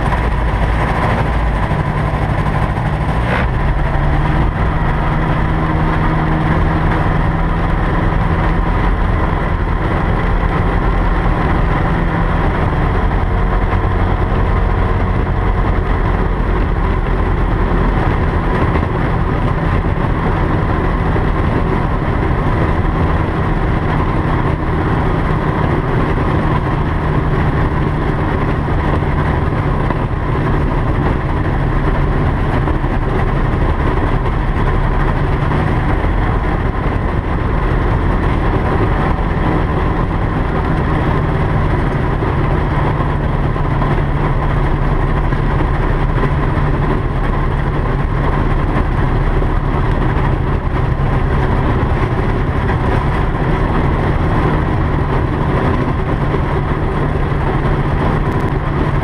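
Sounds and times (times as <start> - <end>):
light airplane engine and propeller: 0.0 - 59.0.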